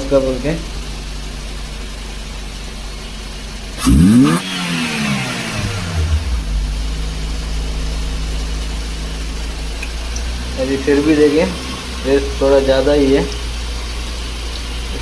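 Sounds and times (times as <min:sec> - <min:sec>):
engine revving then idling: 0:00.0 - 0:15.0.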